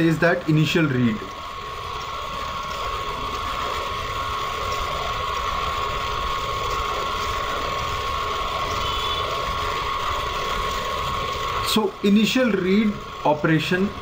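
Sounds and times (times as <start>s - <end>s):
high-pitched whine: 0.0s - 14.0s
steady hiss: 0.0s - 14.0s.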